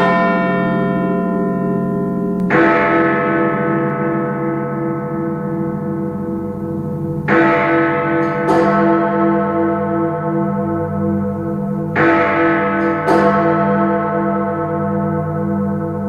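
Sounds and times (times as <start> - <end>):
clock tower bell strikes: 0.0 - 16.0.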